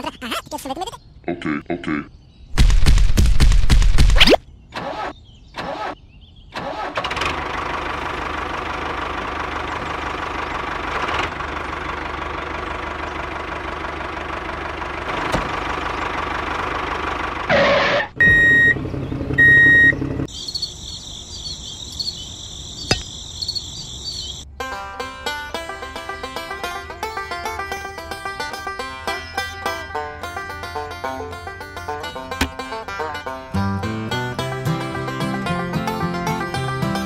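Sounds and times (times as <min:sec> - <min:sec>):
tractor engine starting and running: 0:04.7 - 0:20.9, 0:21.7 - 0:37.0.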